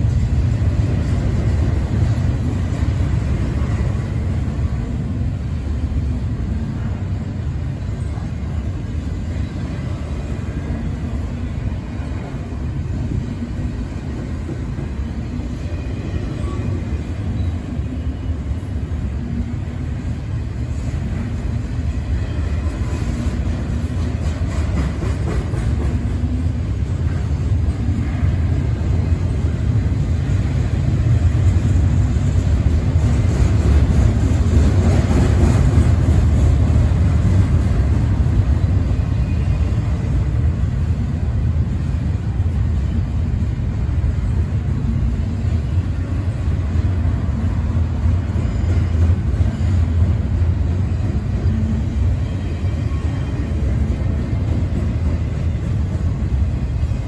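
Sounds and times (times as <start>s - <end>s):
freight train wheels rumbling on rail: 0.0s - 57.0s.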